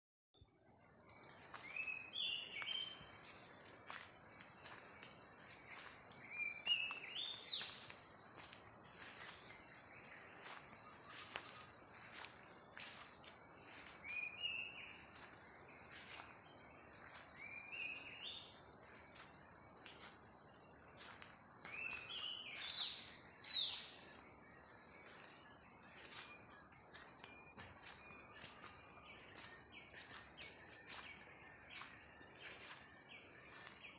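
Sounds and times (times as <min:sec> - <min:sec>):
insects chorus: 0:00.4 - 0:33.9.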